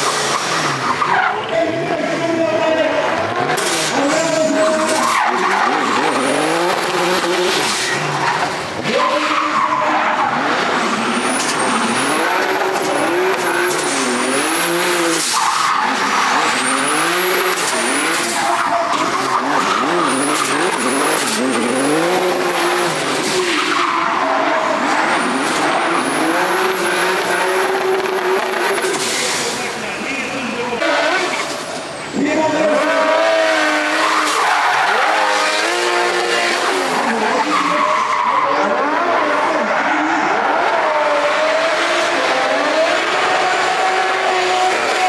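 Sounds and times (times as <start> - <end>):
car engine revving hard: 0.0 - 31.8, 32.5 - 45.0.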